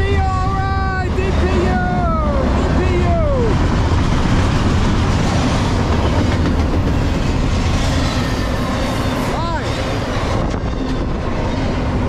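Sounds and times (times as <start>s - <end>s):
freight train passing: 0.0s - 12.0s.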